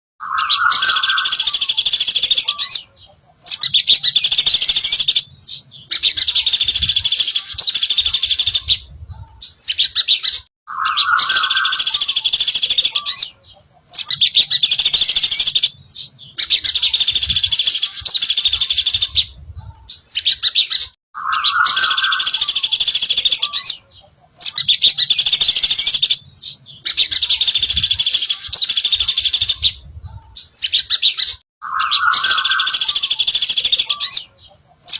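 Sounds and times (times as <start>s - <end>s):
bird singing high-pitched phrases: 0.2s - 34.9s.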